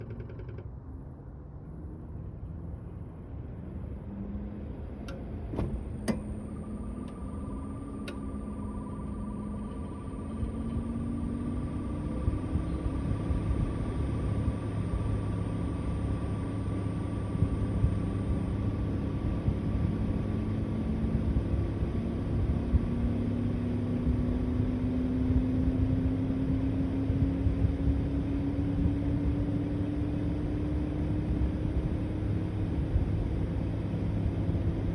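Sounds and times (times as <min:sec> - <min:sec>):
steady rumble: 0:02.8 - 0:34.9
compressor hum rising in pitch: 0:05.7 - 0:34.9.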